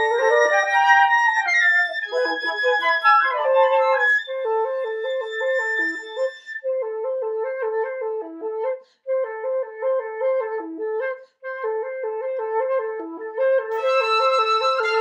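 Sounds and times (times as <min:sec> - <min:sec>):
flutes and piccolo playing: 0:00.0 - 0:15.0.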